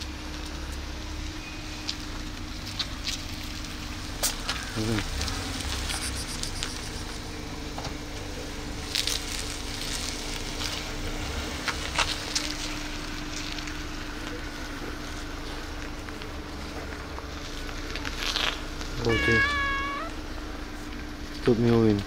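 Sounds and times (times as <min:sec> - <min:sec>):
dry grass and leaves crackling: 0:01.8 - 0:22.0.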